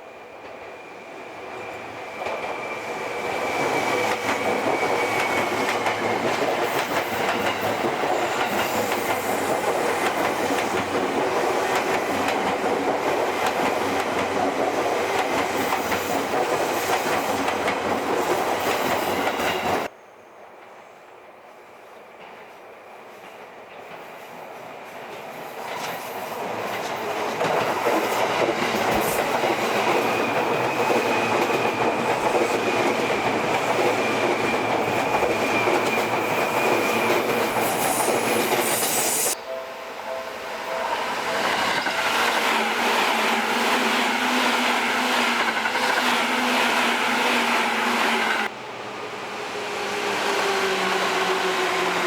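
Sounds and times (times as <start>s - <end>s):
train running on rails: 0.0s - 52.0s
train wheels clickety-clack: 1.7s - 19.9s, 22.1s - 39.4s, 41.4s - 48.5s.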